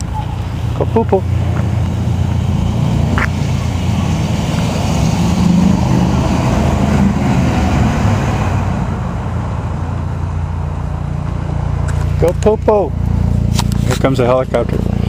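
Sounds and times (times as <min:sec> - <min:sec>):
distant helicopter rumble: 0:00.0 - 0:15.0.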